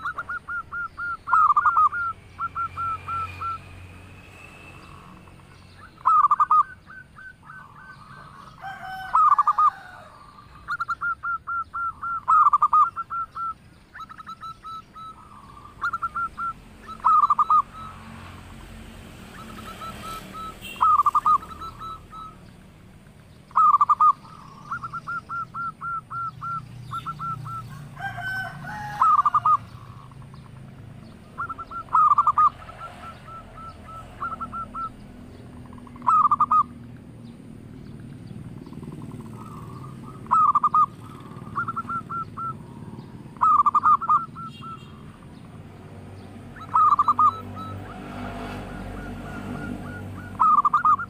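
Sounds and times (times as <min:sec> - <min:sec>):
dove cooing: 0:00.0 - 0:03.8, 0:04.8 - 0:18.5, 0:19.3 - 0:22.6, 0:23.4 - 0:45.6, 0:46.4 - 0:51.0.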